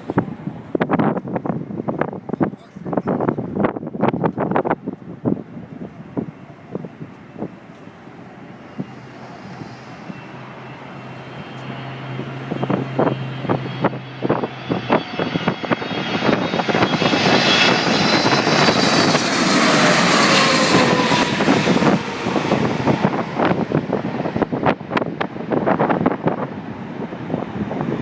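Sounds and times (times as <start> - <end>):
jet engines whining: 0.0 - 28.0
wind buffeting microphone: 0.0 - 28.0.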